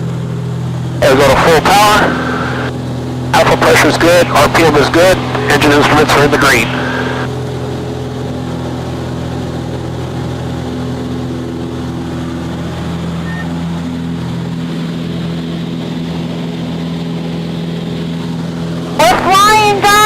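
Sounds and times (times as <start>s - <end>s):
airplane engine and propeller drone: 0.0s - 20.0s.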